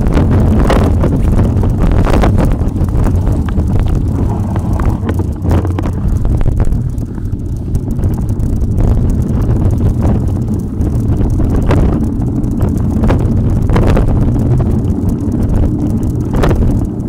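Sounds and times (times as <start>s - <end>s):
bike clicks and knocks: 0.0s - 17.0s
wind buffeting microphone: 0.0s - 17.0s.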